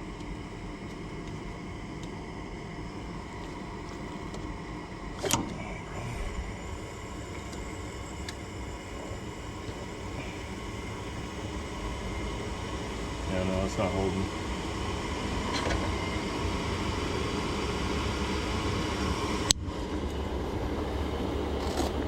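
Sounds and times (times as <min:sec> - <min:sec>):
furnace humming: 0:00.0 - 0:22.0.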